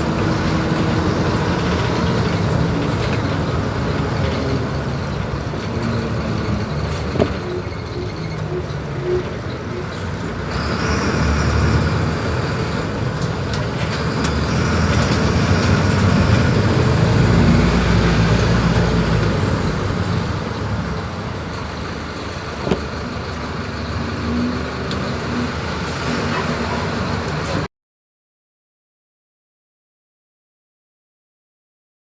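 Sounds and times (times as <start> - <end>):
bus diesel engine running: 0.0 - 27.7.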